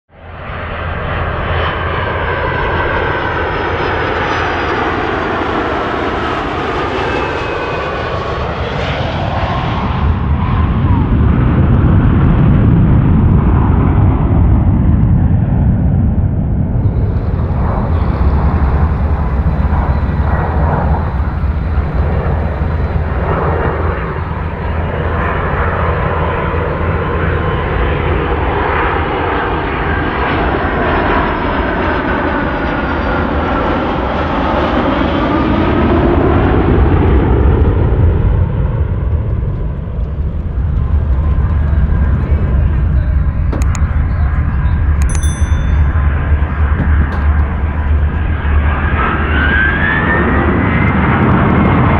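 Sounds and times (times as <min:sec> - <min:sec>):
jet engine whine: 0:00.1 - 0:51.9
jet engine rumble: 0:00.2 - 0:51.9.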